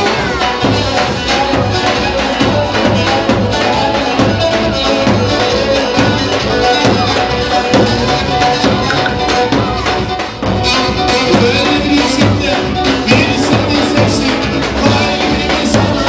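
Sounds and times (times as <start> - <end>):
music with percussive beat: 0.0 - 16.0.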